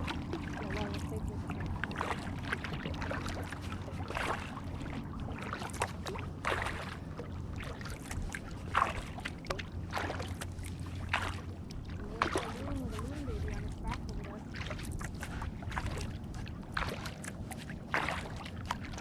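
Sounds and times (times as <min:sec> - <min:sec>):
paddle swishing through water: 0:00.0 - 0:19.0
water splashes and drips: 0:00.0 - 0:19.0.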